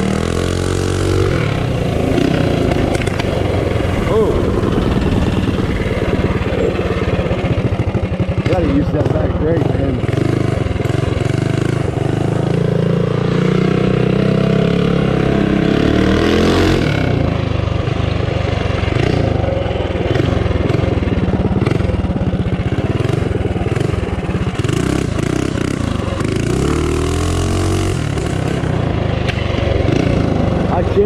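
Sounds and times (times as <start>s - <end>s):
mini bike engine revving: 0.0s - 31.0s.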